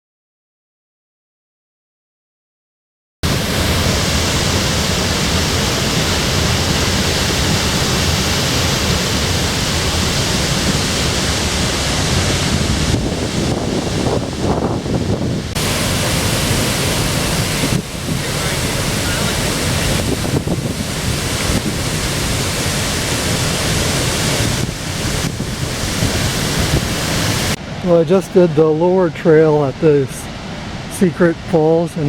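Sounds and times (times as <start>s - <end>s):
waterfall roaring: 3.2s - 32.0s.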